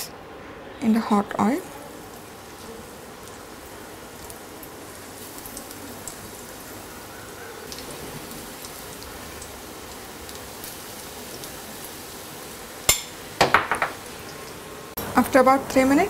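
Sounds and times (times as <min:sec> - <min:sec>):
oil sizzling and crackling: 0:01.0 - 0:16.0.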